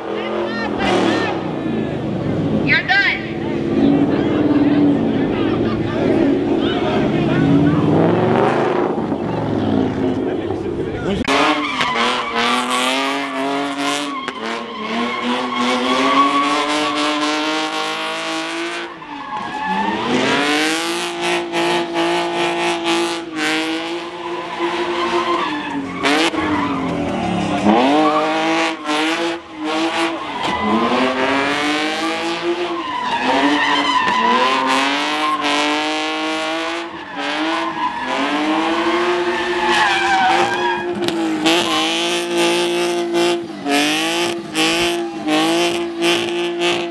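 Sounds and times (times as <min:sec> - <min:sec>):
car engines revving high: 0:00.0 - 0:46.9
tires squealing: 0:00.0 - 0:46.9.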